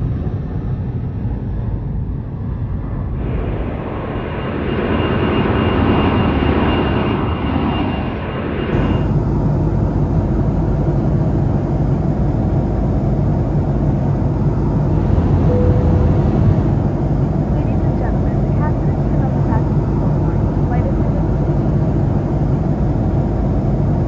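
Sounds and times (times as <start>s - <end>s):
airliner cabin rumble: 0.0s - 24.0s
jet airliner flying past: 0.0s - 24.0s.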